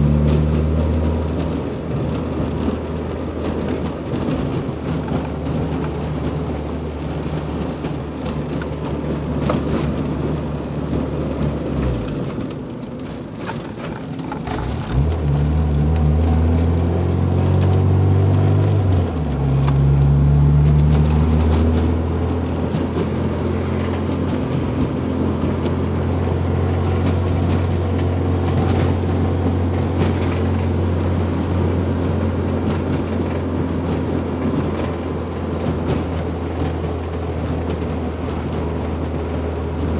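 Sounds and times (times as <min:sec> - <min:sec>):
car engine knocking: 0:00.2 - 0:39.9.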